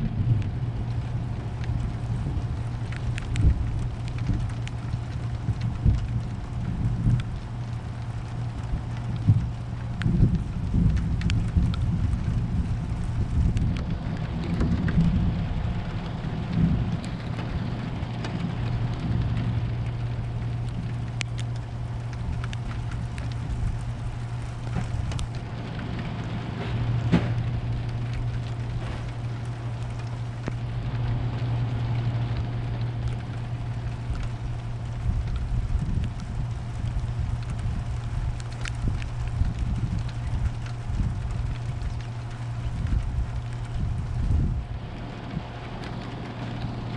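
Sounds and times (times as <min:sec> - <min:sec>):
low hum: 0:00.0 - 0:46.9
raindrops ticking: 0:00.0 - 0:46.9
steady rain falling: 0:00.0 - 0:46.9.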